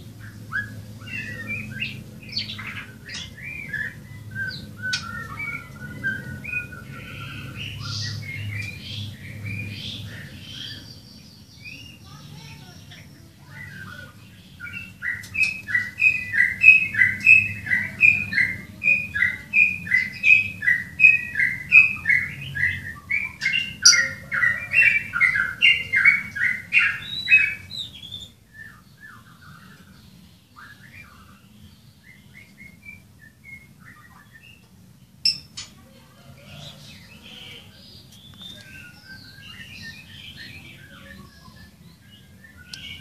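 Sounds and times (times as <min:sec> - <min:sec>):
bird chirping: 0:00.0 - 0:43.0.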